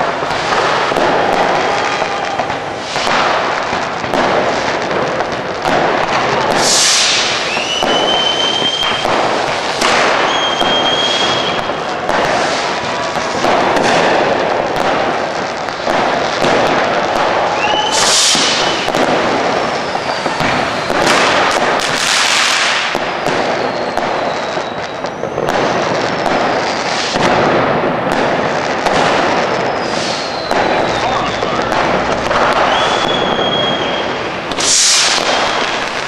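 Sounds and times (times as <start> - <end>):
firework whistles: 0.0 - 36.0
fireworks crackling bangs: 0.0 - 36.0.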